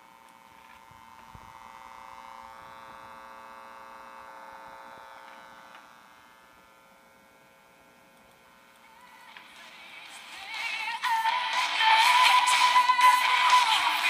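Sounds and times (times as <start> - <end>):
amplifier electrical hum and buzz: 0.0 - 14.0.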